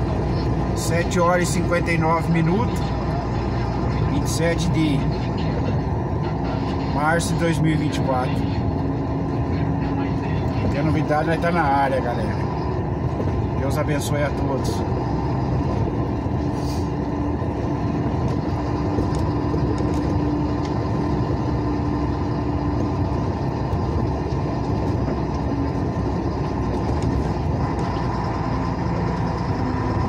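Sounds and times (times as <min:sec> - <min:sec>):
vehicle engine drone: 0:00.0 - 0:30.0.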